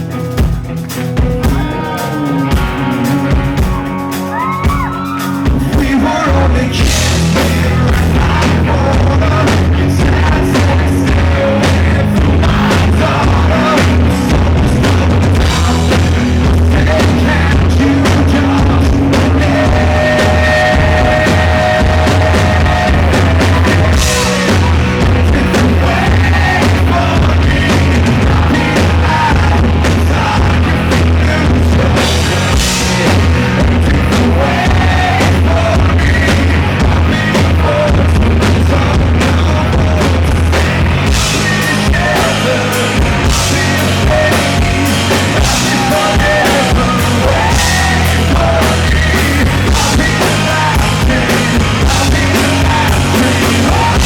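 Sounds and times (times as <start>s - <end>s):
heavy drums: 0.0s - 54.0s
rock band playing: 0.0s - 54.0s
person singing: 1.5s - 54.0s.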